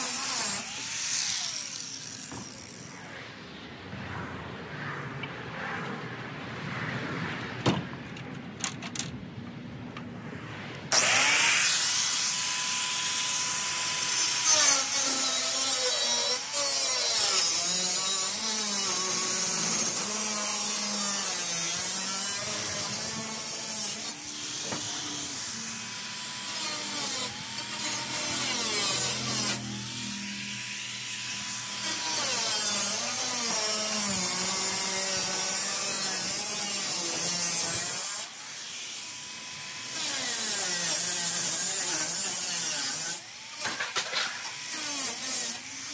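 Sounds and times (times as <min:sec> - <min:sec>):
angle grinder cutting metal: 0:00.0 - 0:03.2, 0:10.9 - 0:45.9.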